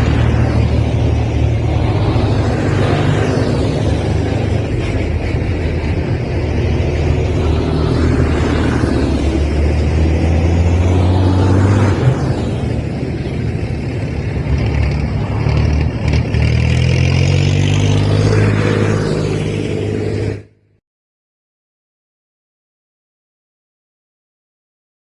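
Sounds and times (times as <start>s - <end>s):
tractor engines running: 0.0s - 20.6s.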